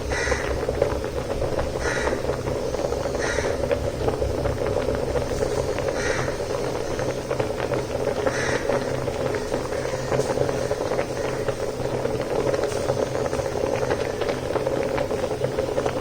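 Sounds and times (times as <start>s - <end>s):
rice bubbling in a pot: 0.0s - 16.0s.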